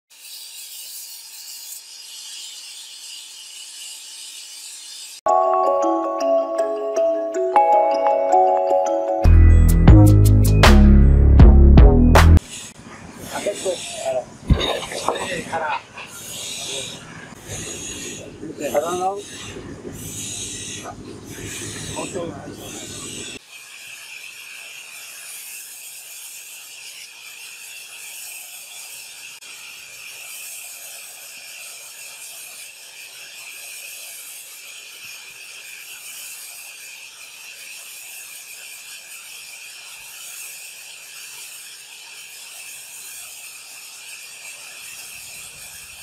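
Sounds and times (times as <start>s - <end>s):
band saw hissing: 0.1s - 5.3s, 12.4s - 46.0s.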